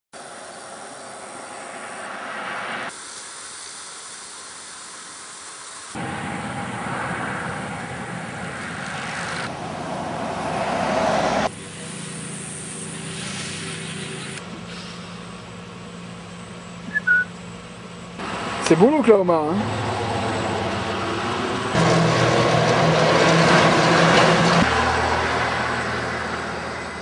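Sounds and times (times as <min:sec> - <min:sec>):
road traffic passing: 0:00.1 - 0:03.2, 0:05.8 - 0:27.0
steady engine hum: 0:00.2 - 0:27.0.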